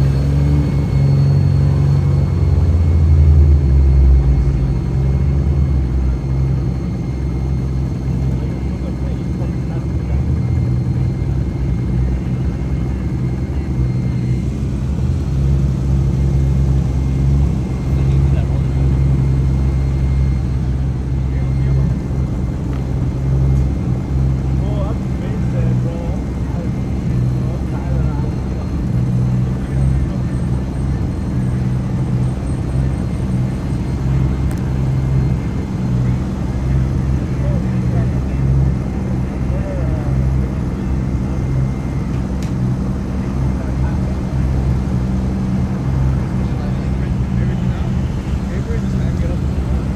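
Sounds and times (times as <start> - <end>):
car engine exhaust rumble: 0.0 - 49.9.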